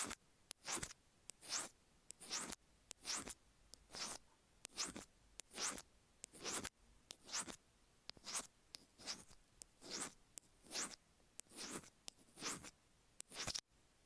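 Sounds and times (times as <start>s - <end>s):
metal ear pick scraping: 0.0s - 7.6s, 8.2s - 12.7s.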